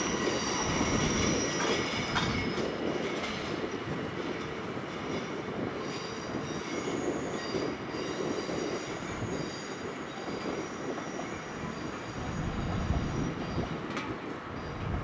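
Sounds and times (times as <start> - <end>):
high wheel squeal: 0.0 - 3.6, 5.0 - 13.7
train rolling noise: 0.0 - 15.0.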